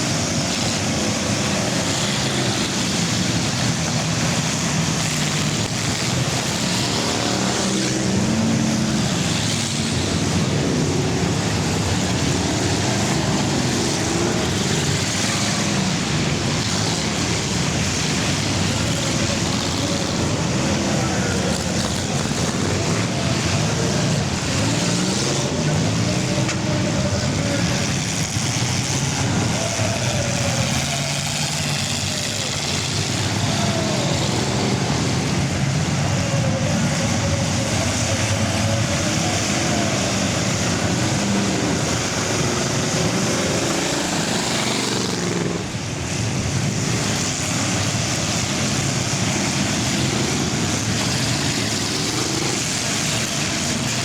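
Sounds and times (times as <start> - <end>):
car engines racing: 0.0 - 54.0.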